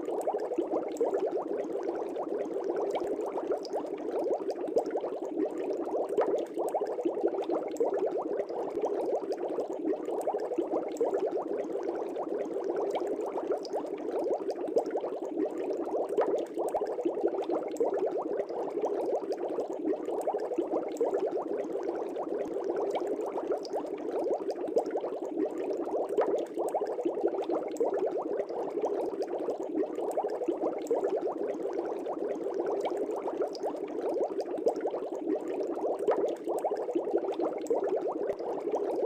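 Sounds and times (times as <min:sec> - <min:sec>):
air bubbles in fish tank: 0:00.0 - 0:39.0.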